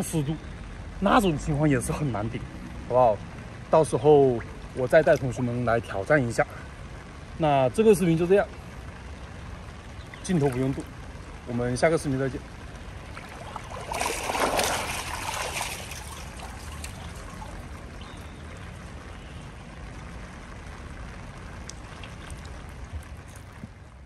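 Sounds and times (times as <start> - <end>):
pool water splashing: 0.0 - 24.0
water trickling and lapping: 0.0 - 24.0.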